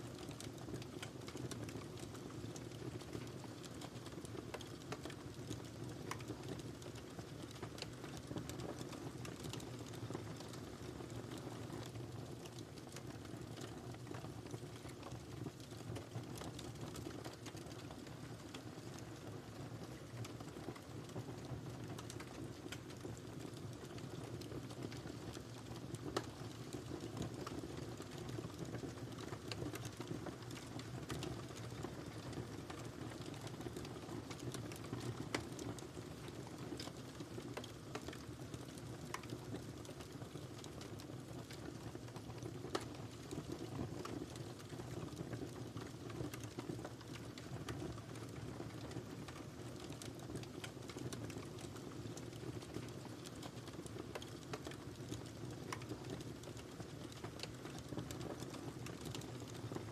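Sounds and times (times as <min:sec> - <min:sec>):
fire crackles and pops: 0:00.0 - 0:59.9.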